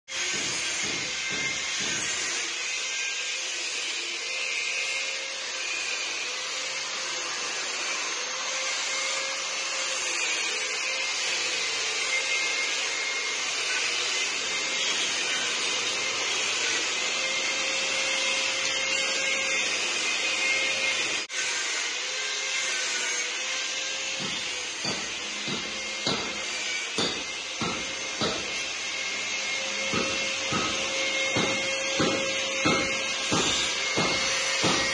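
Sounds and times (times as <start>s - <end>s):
angle grinder cutting metal: 0.1s - 34.9s.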